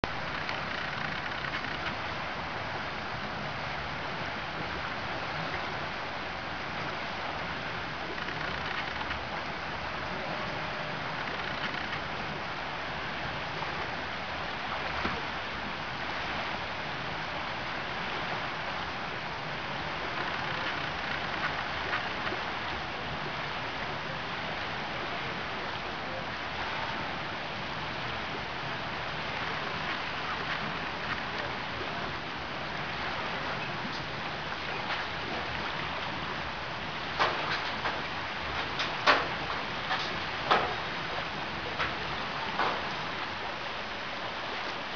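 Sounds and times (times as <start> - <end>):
lake waves lapping and splashing: 0.0 - 44.9.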